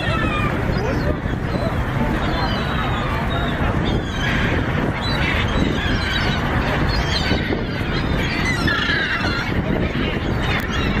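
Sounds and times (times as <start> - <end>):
waterbirds squealing: 0.0 - 11.0.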